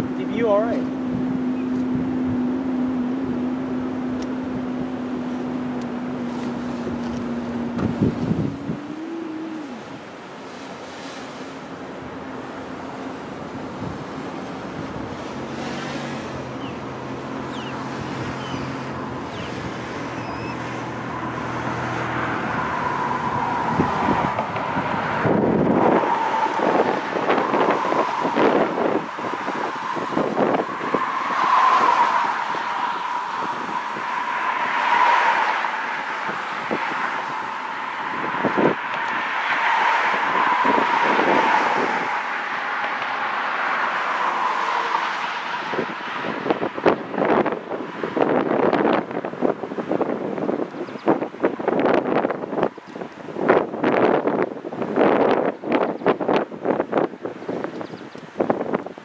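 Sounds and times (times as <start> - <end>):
car engine hum: 0.0 - 59.0
tyre and road noise: 0.0 - 59.0
wind gusts: 0.0 - 59.0.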